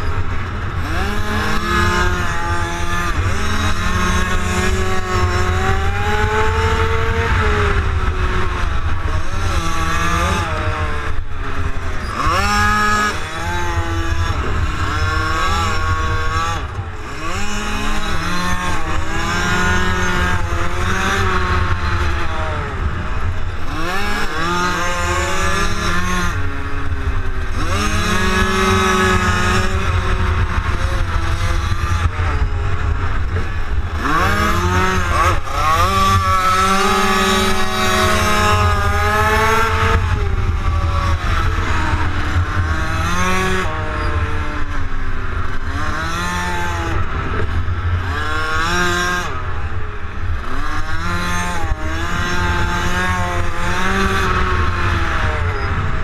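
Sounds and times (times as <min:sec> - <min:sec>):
low wind rumble: 0:00.0 - 0:56.0
motorcycle engine revving: 0:00.0 - 0:56.0.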